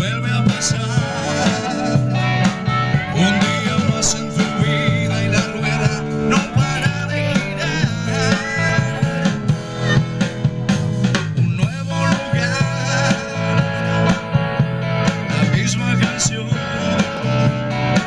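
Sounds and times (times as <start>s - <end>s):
song with plucked guitar: 0.0s - 18.0s.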